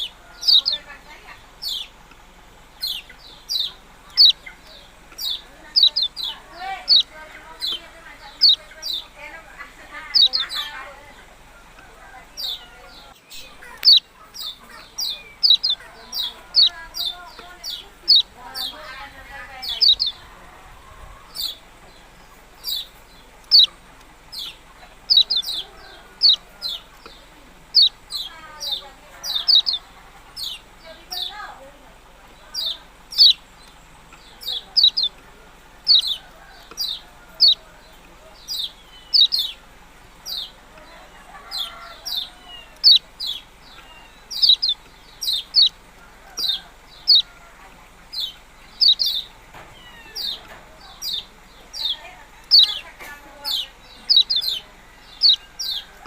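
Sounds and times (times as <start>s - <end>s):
songbird sharp chirps: 0.0s - 56.0s.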